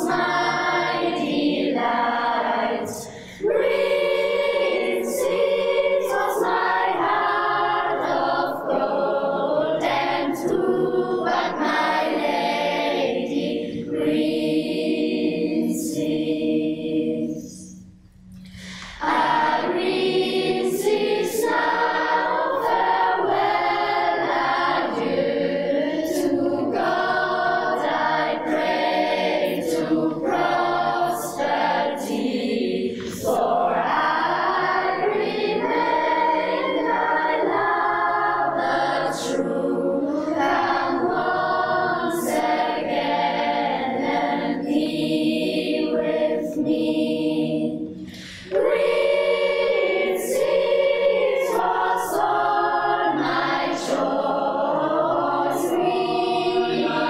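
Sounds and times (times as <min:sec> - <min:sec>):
youth choir singing: 0:00.0 - 0:17.8, 0:18.4 - 0:57.0.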